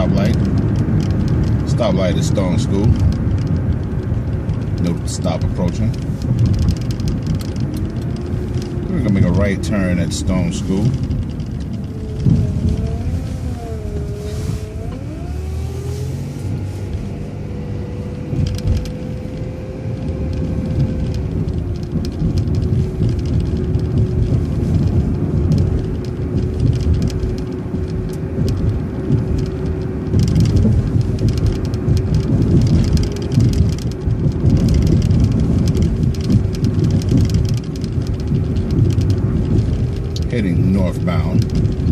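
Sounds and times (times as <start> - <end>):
bus engine and road rumble: 0.0 - 41.9
wavering engine whine: 2.6 - 41.9.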